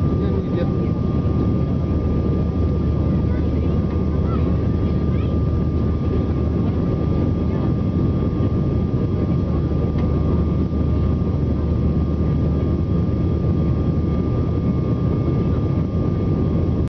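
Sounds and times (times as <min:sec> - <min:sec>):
airplane cabin low rumble: 0:00.0 - 0:16.9
faint steady whine: 0:00.0 - 0:16.9.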